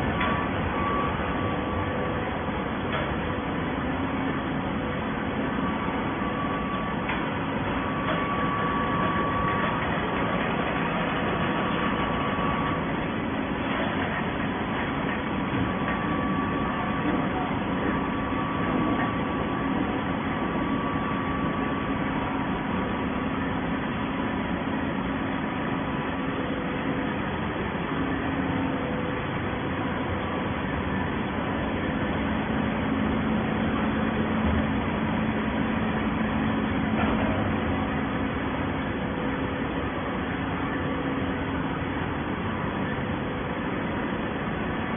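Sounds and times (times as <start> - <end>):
baler machinery hum: 0.0 - 44.9.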